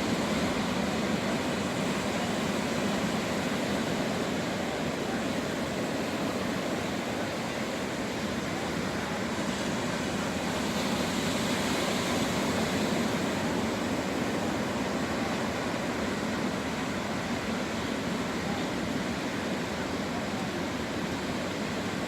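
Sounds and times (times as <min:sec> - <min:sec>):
beach surf: 0:00.0 - 0:22.0
wind: 0:00.0 - 0:22.0.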